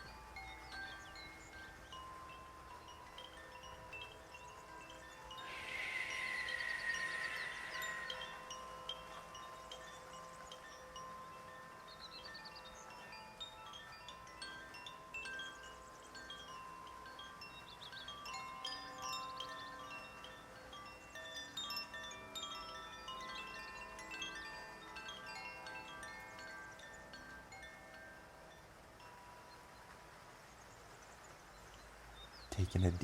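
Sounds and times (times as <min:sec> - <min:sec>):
wind chimes tinkling: 0:00.0 - 0:33.0.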